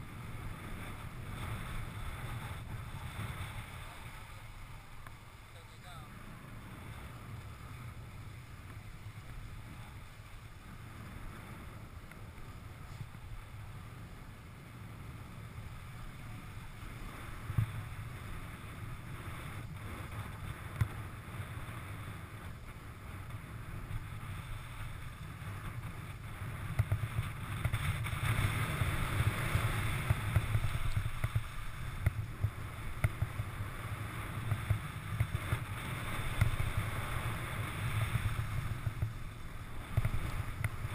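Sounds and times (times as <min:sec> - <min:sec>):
skis scraping on snow: 0:00.0 - 0:40.9
wind buffeting microphone: 0:00.0 - 0:40.9.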